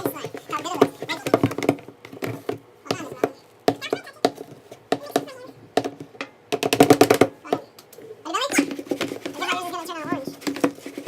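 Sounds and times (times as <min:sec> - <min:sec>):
stick stirring slime in bucket: 0:00.0 - 0:11.0.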